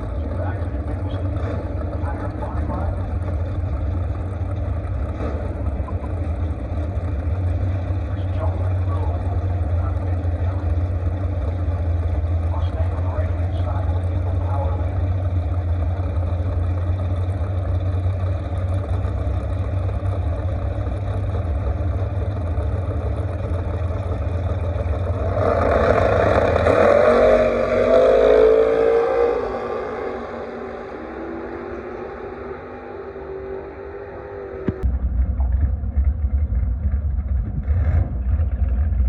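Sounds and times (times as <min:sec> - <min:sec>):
car engines rumbling: 0:00.0 - 0:39.0.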